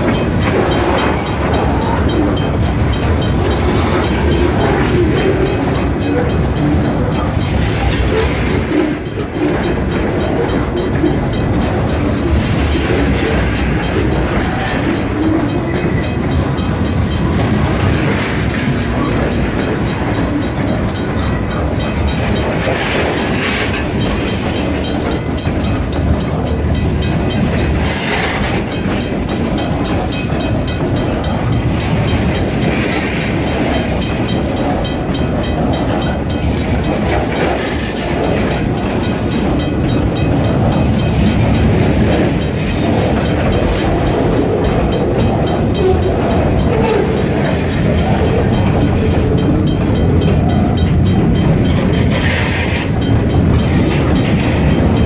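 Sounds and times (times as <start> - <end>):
freight train rolling past: 0.0 - 55.0
train wheels clacking over rail joints: 0.0 - 55.0.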